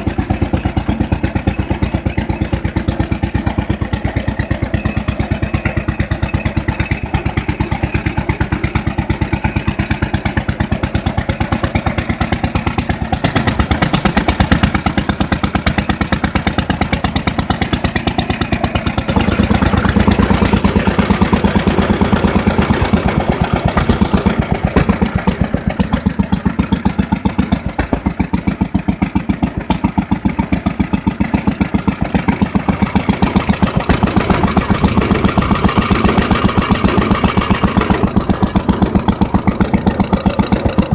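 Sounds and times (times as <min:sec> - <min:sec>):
stationary engine running: 0:00.0 - 0:40.9.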